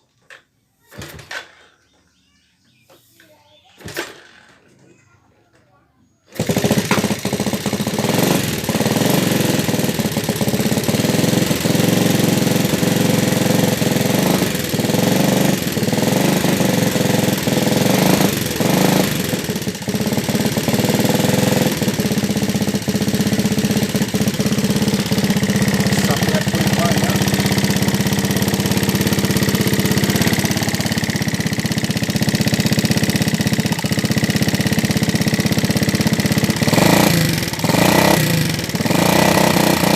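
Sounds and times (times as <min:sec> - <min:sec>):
motorcycle engine clattering: 0:06.3 - 0:39.9.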